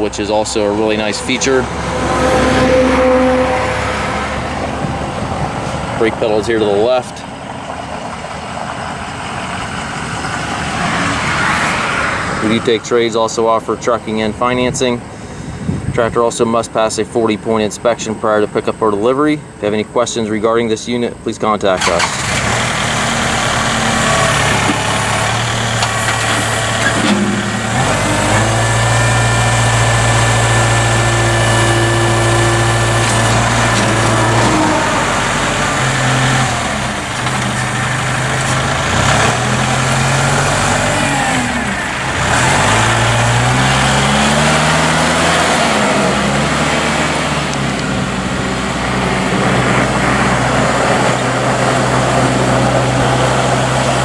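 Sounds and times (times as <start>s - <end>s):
tractor diesel engine revving: 0.0s - 15.1s, 21.6s - 54.0s.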